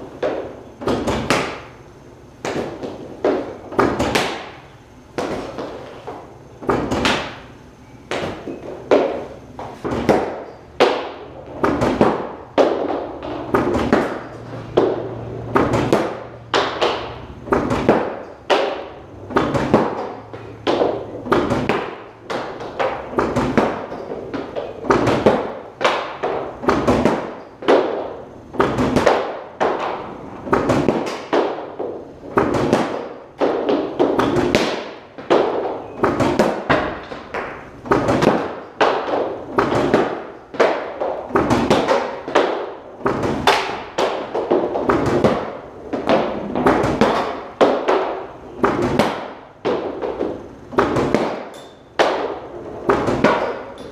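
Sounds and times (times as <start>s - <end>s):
pucks thudding against pads: 0.0s - 1.8s, 2.4s - 53.9s.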